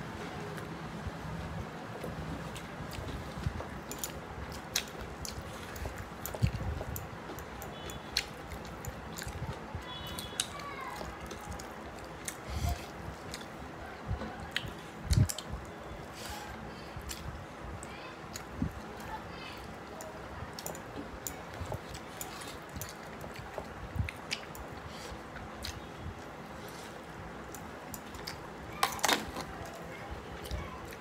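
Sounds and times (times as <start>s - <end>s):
chewing with wet mouth smacks: 2.0s - 13.6s, 14.4s - 17.4s, 20.0s - 31.0s.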